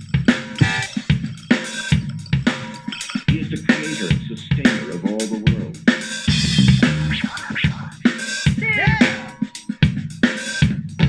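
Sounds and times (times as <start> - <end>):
music with drum beat on speaker: 0.0 - 11.0.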